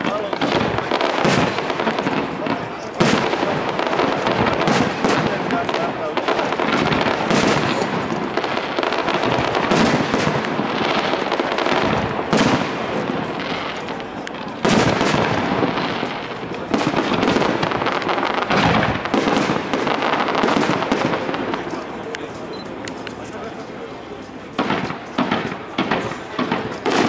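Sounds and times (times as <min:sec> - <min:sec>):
fireworks crackle: 0:00.0 - 0:27.0
fireworks shells bursting: 0:00.0 - 0:27.0
loud fireworks bangs: 0:00.0 - 0:27.0.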